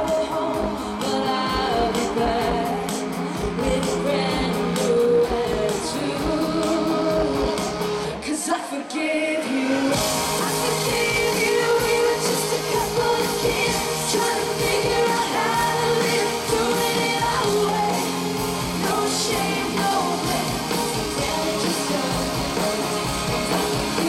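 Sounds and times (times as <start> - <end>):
pop rock band playing: 0.0 - 24.0
woman singing: 0.0 - 24.0.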